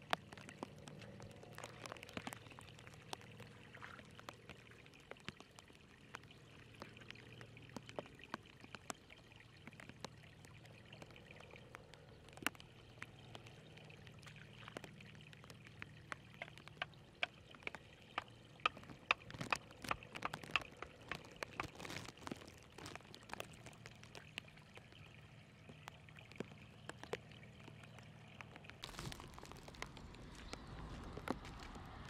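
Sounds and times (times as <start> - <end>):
small splashes and drips: 0.0 - 32.0
water trickling and gurgling: 0.0 - 32.0.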